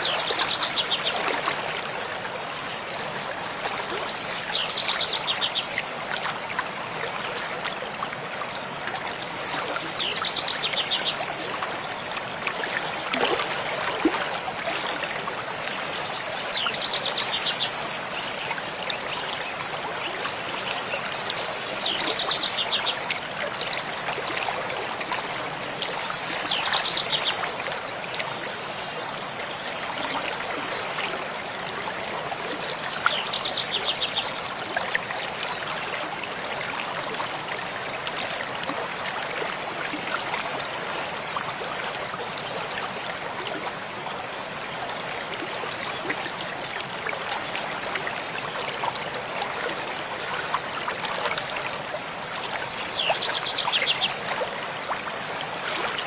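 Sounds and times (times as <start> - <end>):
mountain stream flowing: 0.0 - 56.0.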